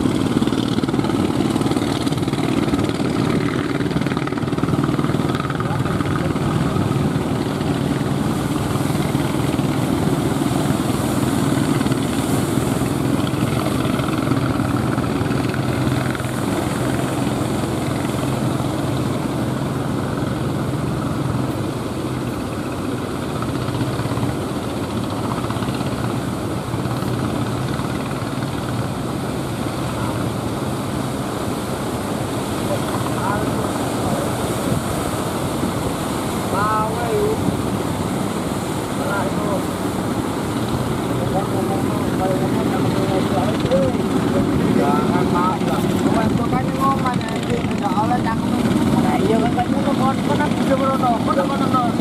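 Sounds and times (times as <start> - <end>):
boat engine drone: 0.0 - 52.0
breaking surf: 0.0 - 52.0
wind: 0.0 - 52.0.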